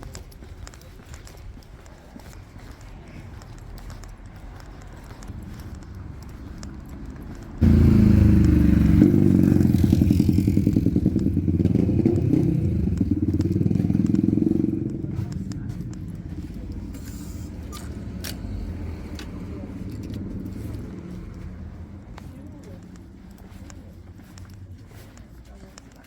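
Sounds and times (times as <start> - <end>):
engine running with low hum: 4.1 - 26.0.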